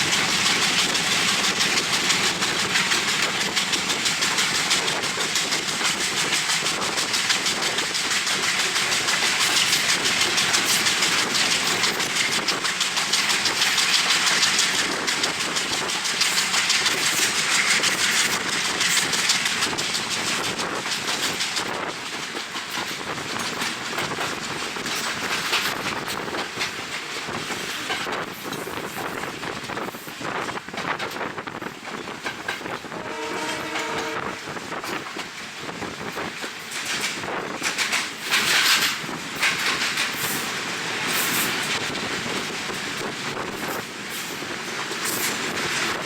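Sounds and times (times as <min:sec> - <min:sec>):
train wheels clattering: 0:00.0 - 0:46.0
wind noise on microphone: 0:00.0 - 0:46.0.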